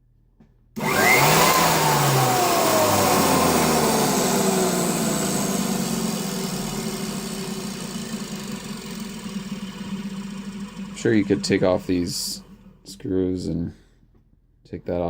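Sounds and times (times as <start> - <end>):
vacuum cleaner motor spinning down: 0.8 - 13.0.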